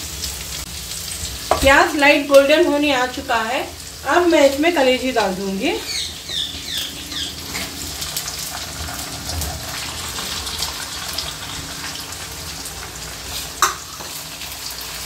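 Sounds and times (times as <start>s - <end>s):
liver sizzling in hot oil: 0.0s - 15.0s.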